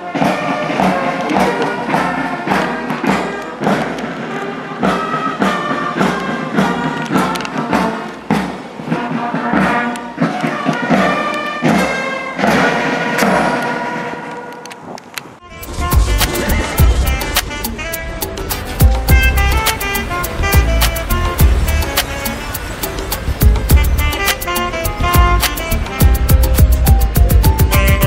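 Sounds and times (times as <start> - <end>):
brass music with steady beat: 0.0 - 14.8, 15.4 - 28.0.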